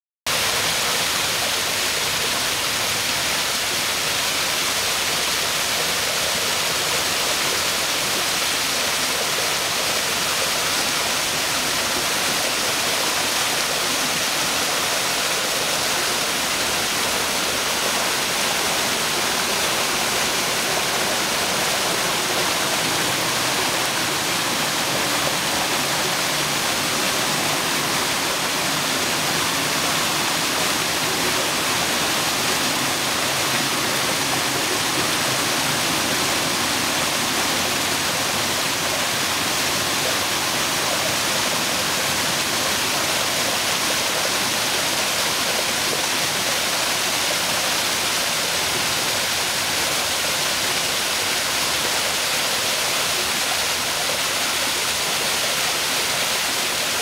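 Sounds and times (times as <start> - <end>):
small waterfall splashing: 0.3 - 57.0.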